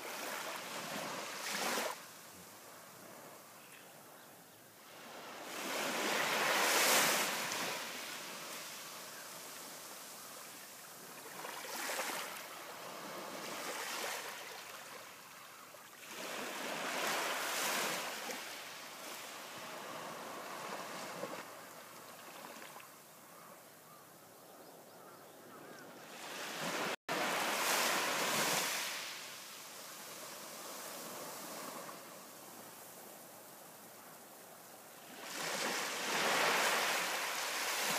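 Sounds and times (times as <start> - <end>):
waves washing up a beach: 0.0 - 23.1, 26.1 - 37.9.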